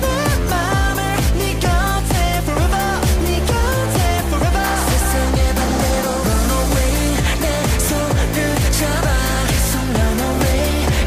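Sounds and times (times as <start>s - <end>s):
electronic dance pop song: 0.0s - 11.0s.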